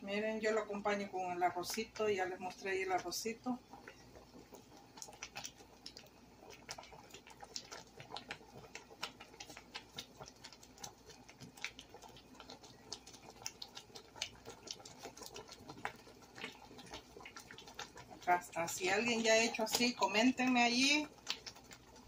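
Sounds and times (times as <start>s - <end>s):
sauce bubbles popping: 0.4s - 22.0s.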